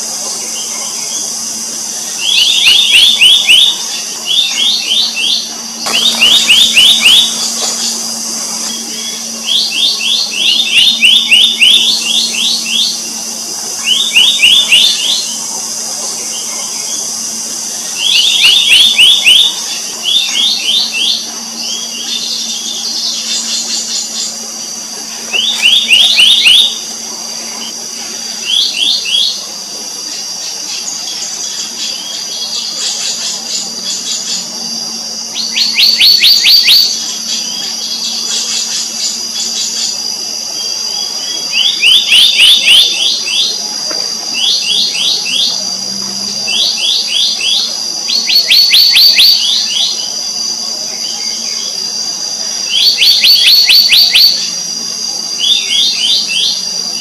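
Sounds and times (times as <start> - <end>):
birds calling ringing notes: 0.0 - 52.0, 52.6 - 57.0
high insect drone: 0.0 - 57.0.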